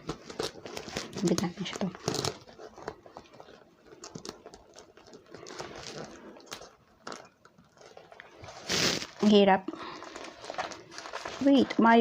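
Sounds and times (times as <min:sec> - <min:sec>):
cloth rustling: 0:00.0 - 0:12.0.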